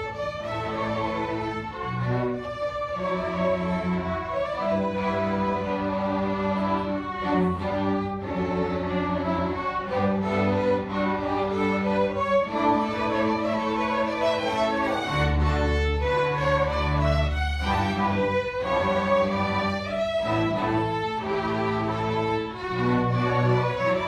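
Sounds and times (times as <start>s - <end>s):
string orchestra playing: 0.0s - 24.0s.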